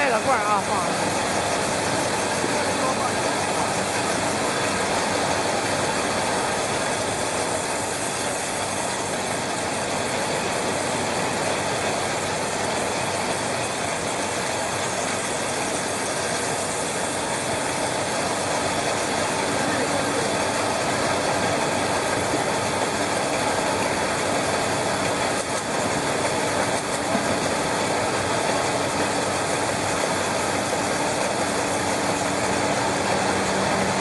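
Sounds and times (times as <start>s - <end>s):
leak tester machine running: 0.0s - 34.0s.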